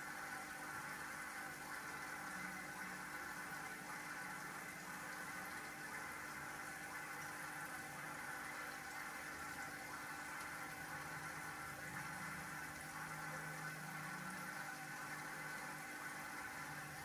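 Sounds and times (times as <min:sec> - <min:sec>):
aquarium water bubbling: 0:00.0 - 0:17.0
faint steady hum: 0:00.0 - 0:17.0.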